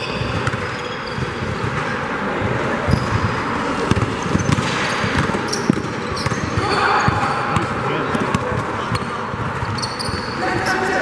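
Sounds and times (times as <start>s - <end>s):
gym hall noise: 0.0s - 11.0s
basketball bouncing on floor: 0.2s - 1.9s, 2.9s - 10.7s.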